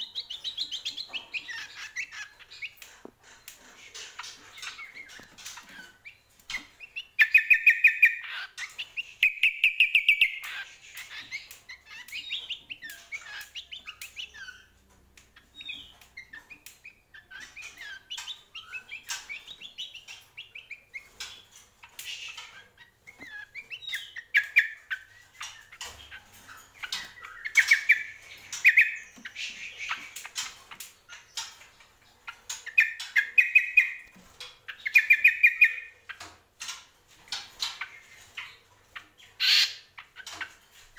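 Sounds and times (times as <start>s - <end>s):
bird singing trilled phrases: 0.0s - 2.8s, 4.0s - 34.1s, 34.7s - 40.8s
bird twittering: 0.0s - 14.8s, 15.4s - 31.6s, 32.3s - 34.1s, 34.7s - 36.2s, 37.3s - 40.6s.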